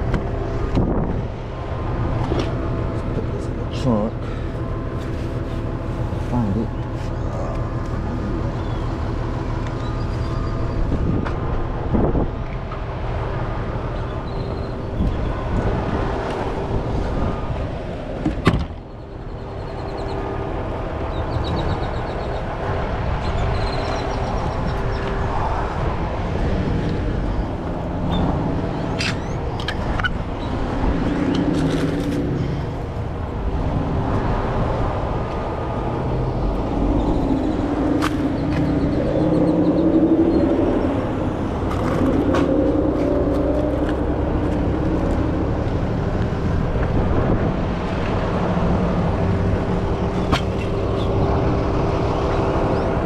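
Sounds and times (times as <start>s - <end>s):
engine running with low rumble: 0.0s - 53.0s.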